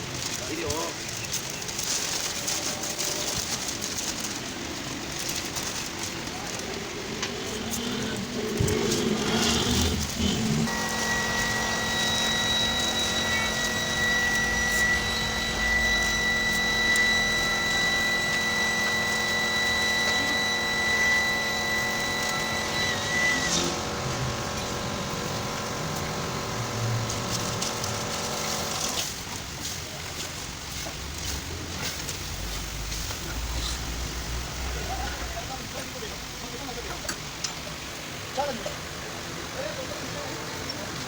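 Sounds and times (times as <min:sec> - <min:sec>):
machine humming: 0:01.7 - 0:36.6
high steady whine: 0:01.7 - 0:38.4.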